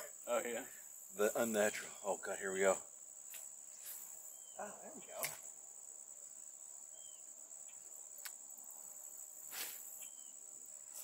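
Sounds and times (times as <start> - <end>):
insects high-pitched drone: 0.0 - 11.0.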